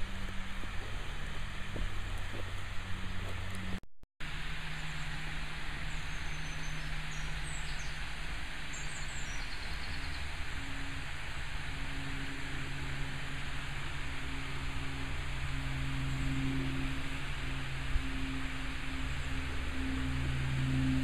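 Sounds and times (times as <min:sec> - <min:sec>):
low electrical hum: 0:00.0 - 0:21.0
outdoor background noise: 0:00.0 - 0:21.0.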